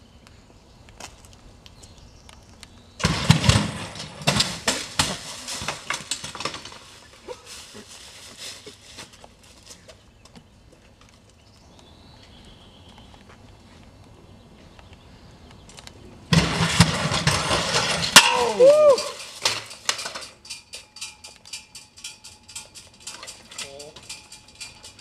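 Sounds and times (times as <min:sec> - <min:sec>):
rustling foliage: 0:00.0 - 0:25.0.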